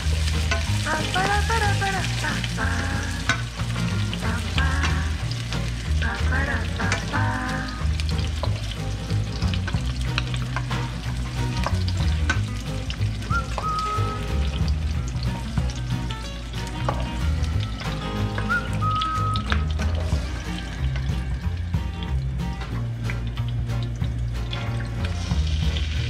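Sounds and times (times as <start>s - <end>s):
background music: 0.0s - 26.0s
onion rings sizzling in oil: 0.0s - 26.0s.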